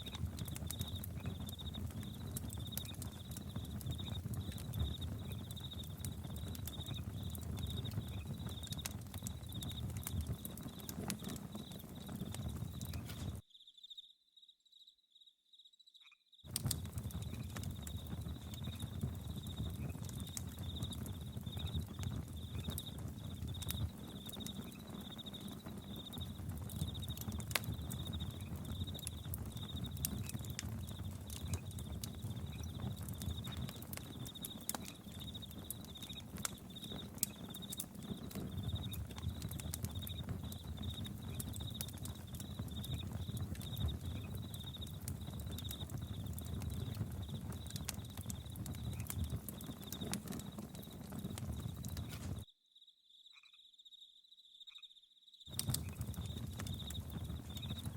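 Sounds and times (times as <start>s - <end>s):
campfire crackling and popping: 0.0s - 13.4s, 16.4s - 52.5s, 55.5s - 57.9s
crickets chirping: 0.3s - 16.4s, 17.2s - 57.9s.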